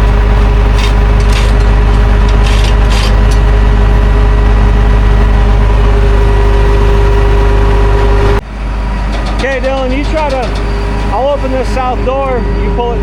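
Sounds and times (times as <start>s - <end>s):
diesel engine rumbling: 0.0s - 13.0s
steady engine whine: 0.0s - 13.0s.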